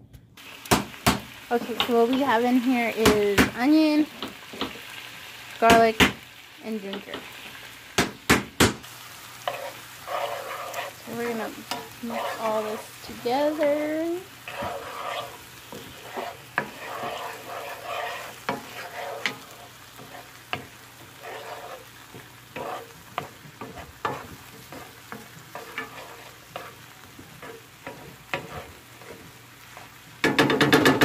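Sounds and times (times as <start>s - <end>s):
oil sizzling: 0.4s - 31.0s
wooden spoon scraping a pan: 1.5s - 4.9s, 9.4s - 31.0s.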